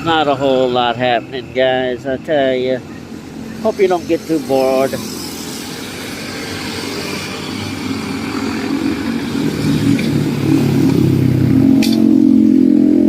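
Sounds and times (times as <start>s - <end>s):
motorcycle engine approaching: 0.0s - 13.0s
road traffic: 0.0s - 13.0s.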